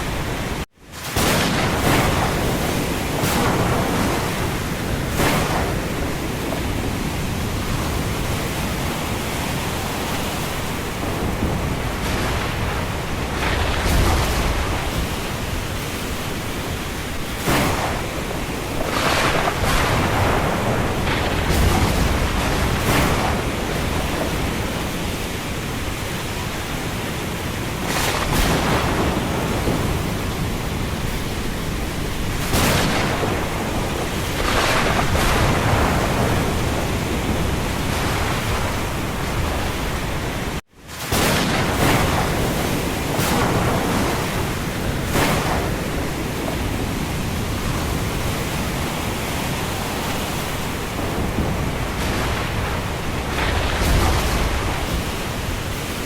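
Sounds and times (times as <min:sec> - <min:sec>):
wind and rain roaring: 0:00.0 - 0:56.0
deep thunder rumble: 0:01.2 - 0:09.7, 0:10.6 - 0:56.0.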